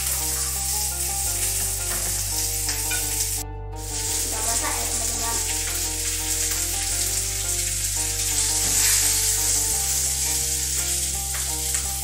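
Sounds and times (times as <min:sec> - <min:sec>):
background music: 0:00.0 - 0:12.0
fish sizzling in hot oil: 0:00.0 - 0:12.0.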